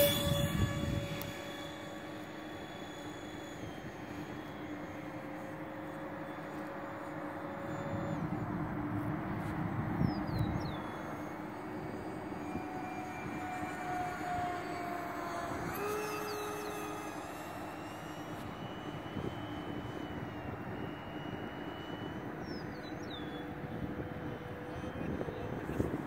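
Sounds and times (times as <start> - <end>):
model jet fans whining: 0.0 - 26.0
wind noise: 0.0 - 26.0.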